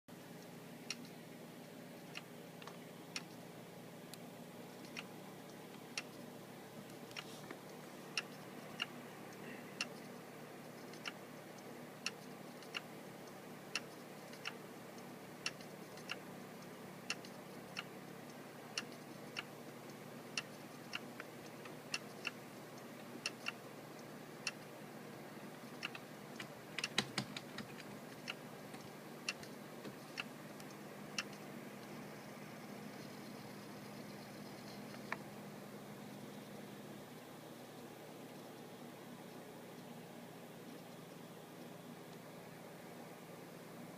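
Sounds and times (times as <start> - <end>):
faint steady hum: 0.1 - 43.9
hard drive clicking: 0.4 - 3.5, 4.1 - 42.3.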